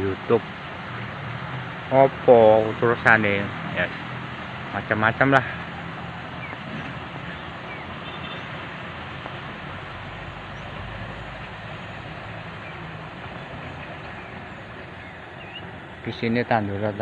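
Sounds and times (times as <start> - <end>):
low hum: 0.0 - 16.2.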